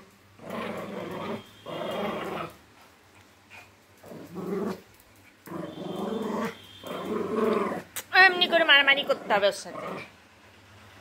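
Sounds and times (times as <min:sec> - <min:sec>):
dog growling in play: 0:00.4 - 0:02.6, 0:03.5 - 0:10.2.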